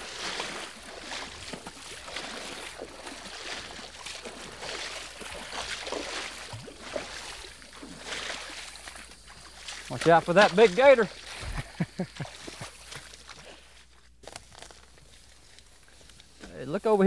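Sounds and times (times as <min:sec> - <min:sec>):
people wading through water: 0:00.0 - 0:17.0.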